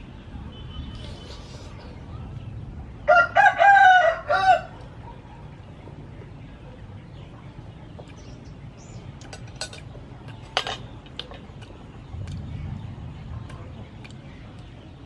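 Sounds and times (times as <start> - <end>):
low background rumble: 1.8 - 15.0.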